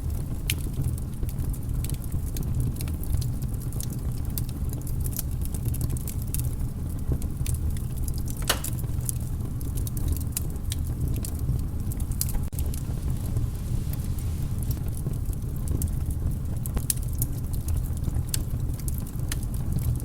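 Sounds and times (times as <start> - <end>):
fire crackling and popping: 0.0 - 20.0
low fire rumble: 0.0 - 20.0.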